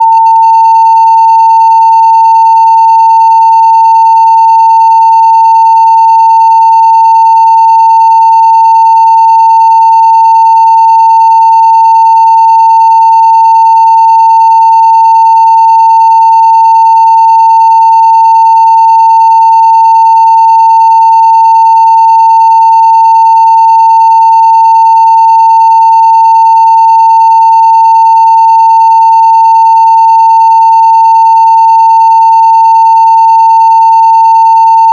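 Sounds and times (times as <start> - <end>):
sine test tone: 0.0 - 34.9.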